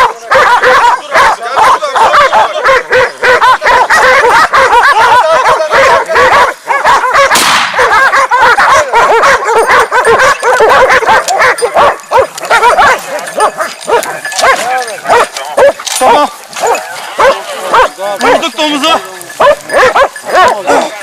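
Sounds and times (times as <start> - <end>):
pack of dogs barking and baying: 0.0 - 21.0.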